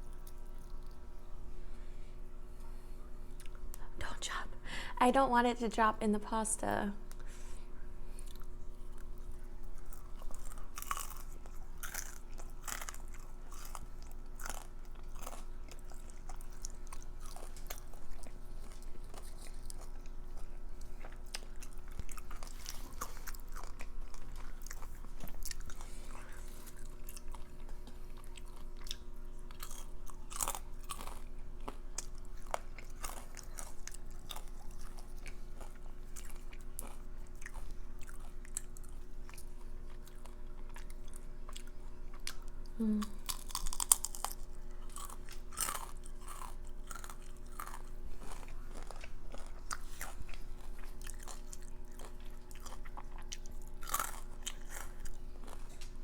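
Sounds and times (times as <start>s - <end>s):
person chewing crunchy food: 0.0s - 3.7s, 7.1s - 56.0s.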